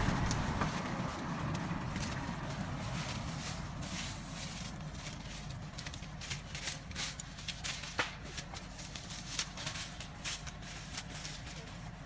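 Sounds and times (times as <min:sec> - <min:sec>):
dry corn stalks crackling underfoot: 0:00.0 - 0:12.0
low steady hum: 0:00.0 - 0:12.0.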